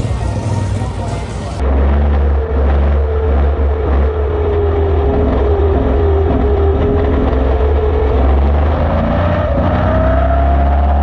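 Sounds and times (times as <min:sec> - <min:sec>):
race car engine running hard: 0:00.0 - 0:11.0.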